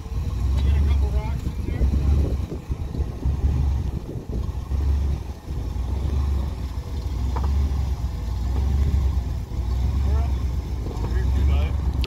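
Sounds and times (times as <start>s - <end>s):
engine rumbling at low revs: 0.0s - 12.0s.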